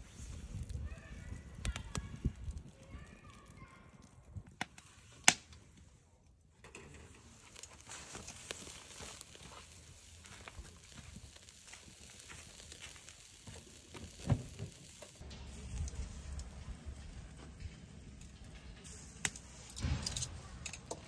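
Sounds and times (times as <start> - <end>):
wood embers crackling: 0.0 - 21.0.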